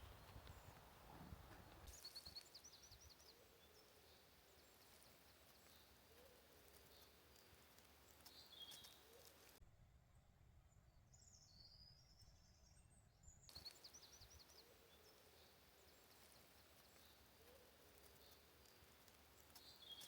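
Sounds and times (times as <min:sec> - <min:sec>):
bird chirping: 0:00.0 - 0:09.6, 0:10.7 - 0:20.0
faint forest ambience: 0:00.0 - 0:20.0.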